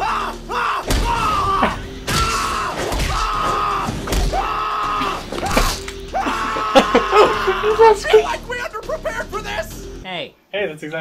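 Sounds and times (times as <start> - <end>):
soundtrack music: 0.0 - 10.0.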